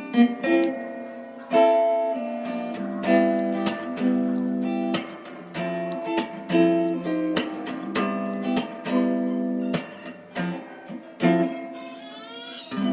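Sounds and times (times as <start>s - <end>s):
acoustic guitar strumming chords: 0.0s - 12.9s.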